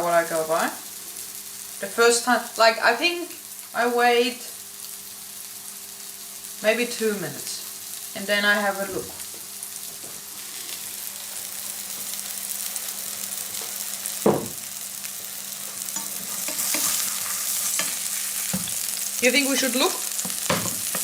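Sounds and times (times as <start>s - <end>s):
patties sizzling in a pan: 0.0s - 21.0s.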